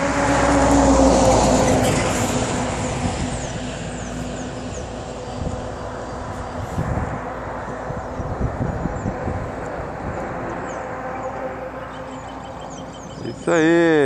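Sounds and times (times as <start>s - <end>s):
truck engine hum: 0.0s - 14.0s.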